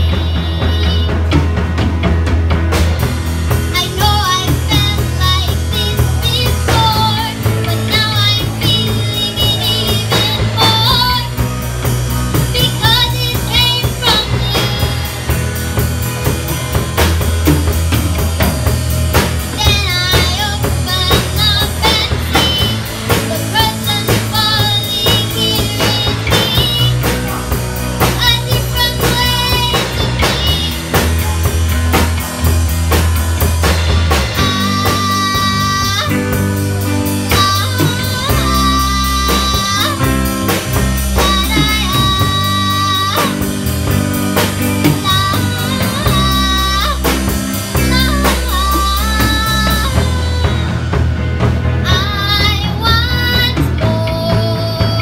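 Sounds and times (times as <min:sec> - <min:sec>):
woman singing: 0:00.0 - 0:01.5, 0:03.6 - 0:15.6, 0:19.1 - 0:31.3, 0:33.8 - 0:51.0, 0:51.8 - 0:55.0
drum kit: 0:00.0 - 0:55.0
electric bass: 0:00.0 - 0:55.0
electric guitar: 0:00.0 - 0:55.0.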